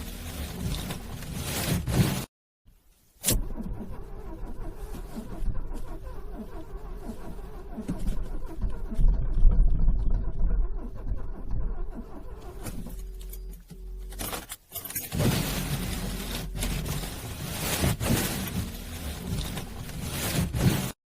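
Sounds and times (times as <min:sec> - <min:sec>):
car engine cranking: 0:00.0 - 0:02.3, 0:03.2 - 0:21.0.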